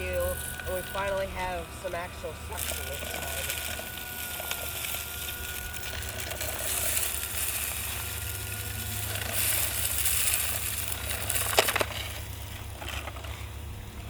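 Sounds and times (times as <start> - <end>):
sand rattling through nozzle: 0.0 - 13.6
vacuum motor whine: 0.0 - 14.0.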